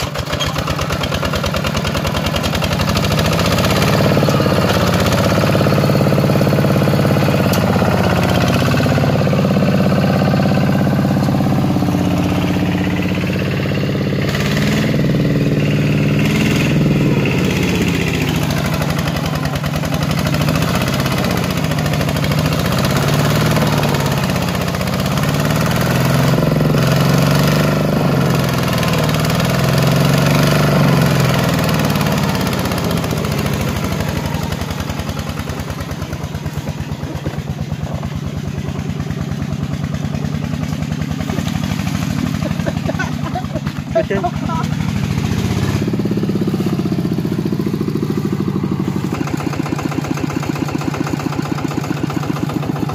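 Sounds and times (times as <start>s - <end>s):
diesel tractor engine under load: 0.0s - 52.9s.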